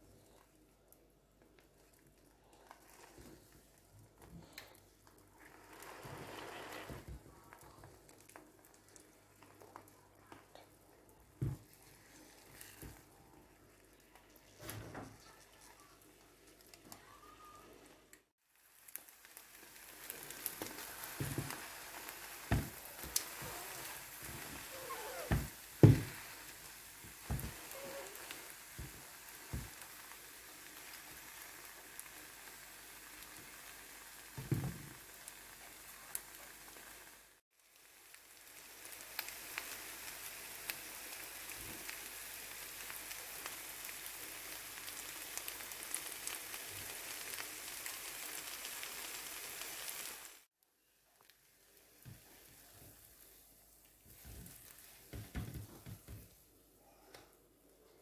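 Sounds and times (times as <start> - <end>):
omelette sizzling in oil: 0.0 - 56.4.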